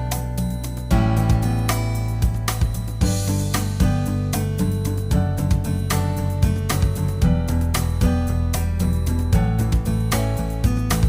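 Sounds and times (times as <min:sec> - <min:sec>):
background music with guitar: 0:00.0 - 0:11.0.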